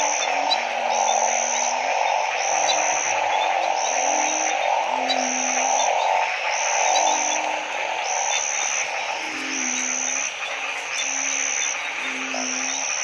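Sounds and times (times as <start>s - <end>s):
dense frog chorus din: 0.0s - 13.0s
frogs croaking: 0.0s - 13.0s.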